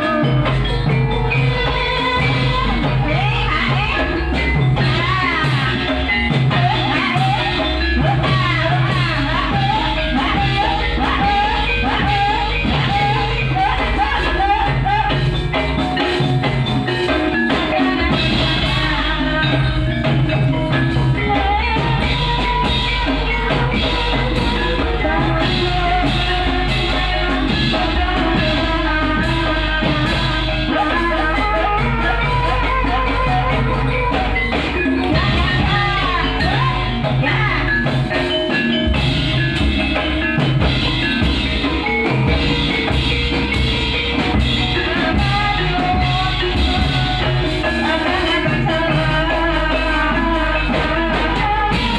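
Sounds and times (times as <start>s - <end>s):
tuned percussion and drums: 0.0s - 51.9s.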